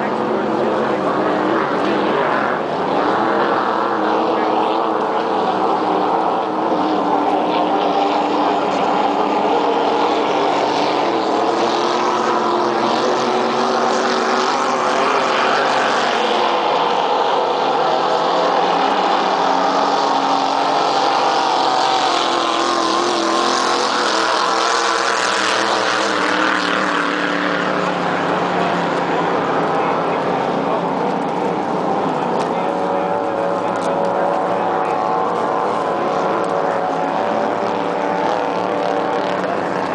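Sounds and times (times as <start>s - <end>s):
race boat engines droning: 0.0s - 39.9s.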